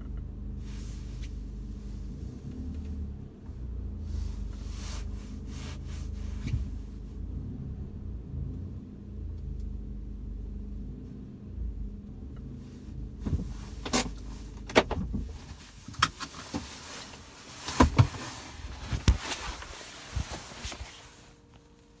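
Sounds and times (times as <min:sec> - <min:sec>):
low car running hum: 0:00.0 - 0:22.0.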